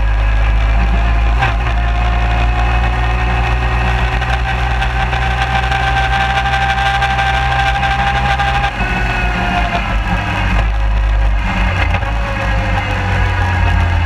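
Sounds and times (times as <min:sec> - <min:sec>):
engine whine: 0:00.0 - 0:14.0
quad bike engine running: 0:00.0 - 0:14.0.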